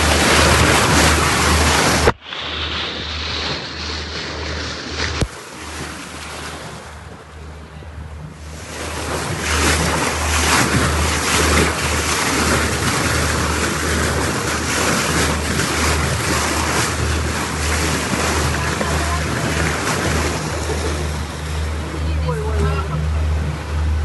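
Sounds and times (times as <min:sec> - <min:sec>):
water rushing along boat hull: 0:00.0 - 0:24.0
wind buffeting microphone: 0:00.0 - 0:24.0.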